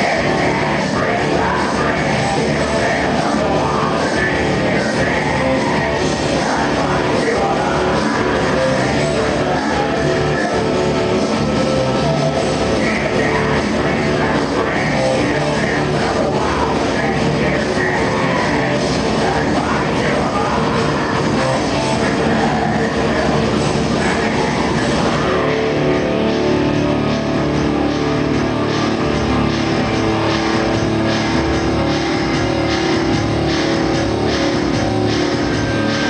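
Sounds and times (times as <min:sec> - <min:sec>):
live industrial metal band: 0:00.0 - 0:36.0.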